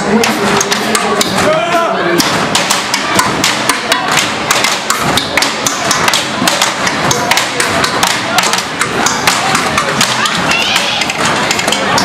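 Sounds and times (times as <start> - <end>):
snare stick strikes: 0.2 - 12.0.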